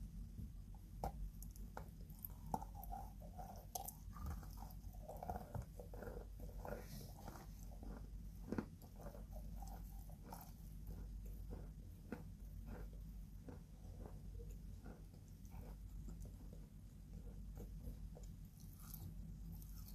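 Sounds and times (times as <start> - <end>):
chalk crunching when chewed: 1.1 - 19.9.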